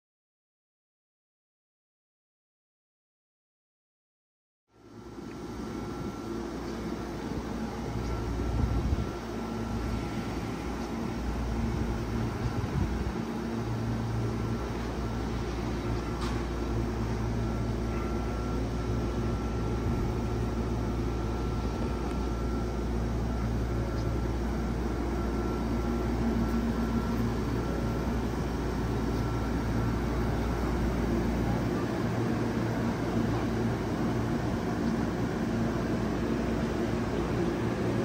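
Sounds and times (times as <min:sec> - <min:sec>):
electric train humming: 0:04.7 - 0:38.0
faint high whine: 0:04.7 - 0:38.0.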